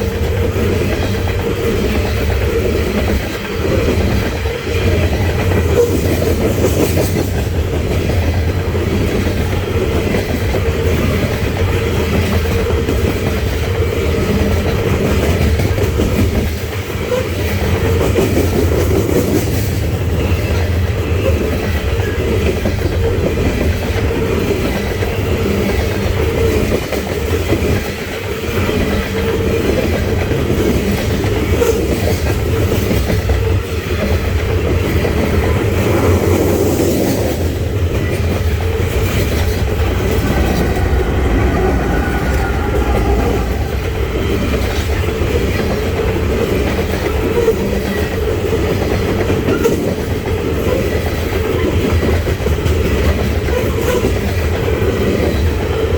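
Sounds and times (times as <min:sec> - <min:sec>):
freight train rumbling past: 0:00.0 - 0:55.9
wheels clickety-clack on rails: 0:00.0 - 0:55.9.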